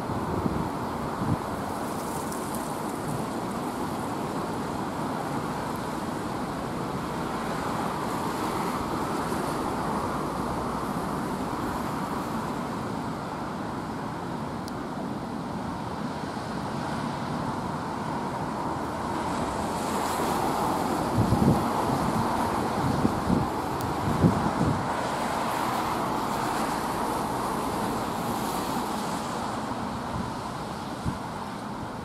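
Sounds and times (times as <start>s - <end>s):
road traffic: 0.0s - 32.0s
train crossing a bridge: 0.0s - 32.0s.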